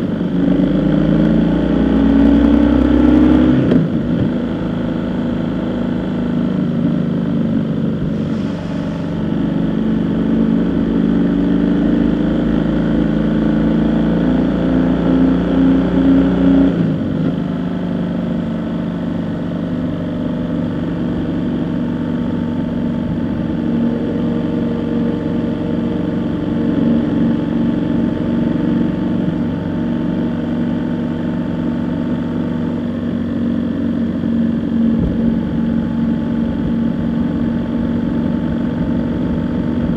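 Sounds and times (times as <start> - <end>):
vehicle engine while driving: 0.0 - 39.9.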